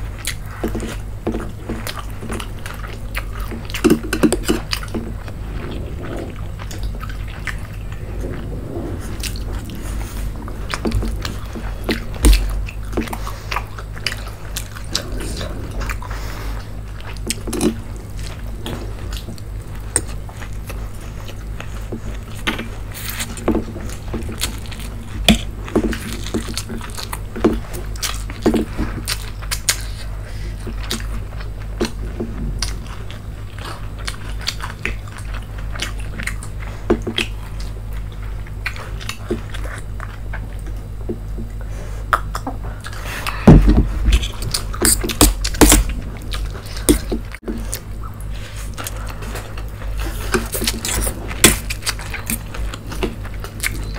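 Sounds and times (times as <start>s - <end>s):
low hum: 0.0s - 36.1s, 38.0s - 53.9s
people chewing food: 0.0s - 53.9s.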